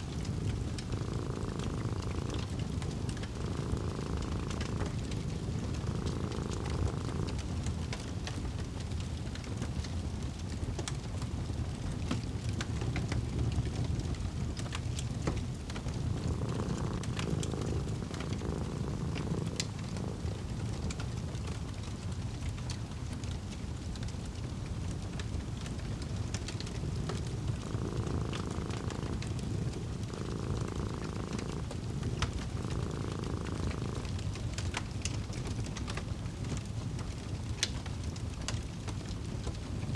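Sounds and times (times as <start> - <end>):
wood fire crackling: 0.0 - 10.7, 13.8 - 35.4
cat purring: 0.0 - 39.9.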